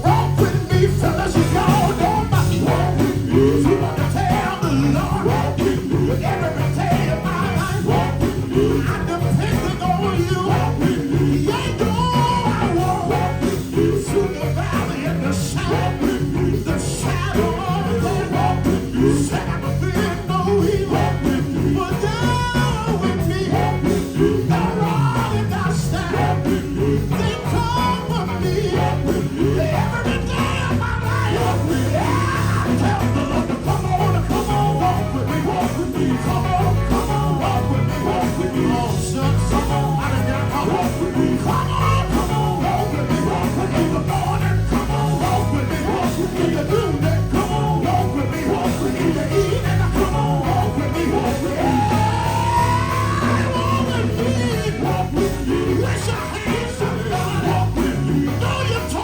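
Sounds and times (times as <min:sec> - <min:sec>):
live gospel band: 0:00.0 - 0:59.0
person singing: 0:00.0 - 0:59.0.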